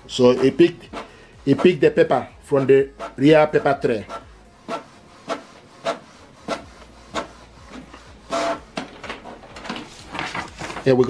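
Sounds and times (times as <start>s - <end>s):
printer mechanical sound: 0.0s - 11.0s
printer page feed whirr: 0.0s - 11.0s.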